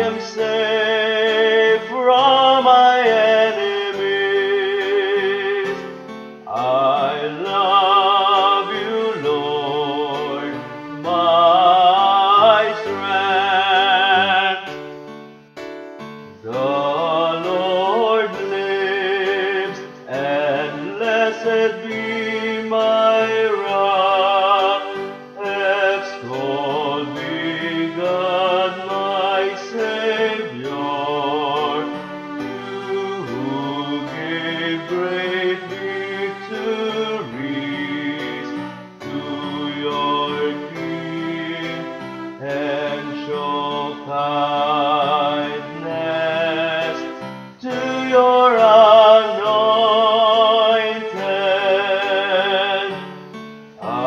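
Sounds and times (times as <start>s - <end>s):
held accompanying chords: 0.0s - 54.0s
vibrato melody: 0.0s - 54.0s.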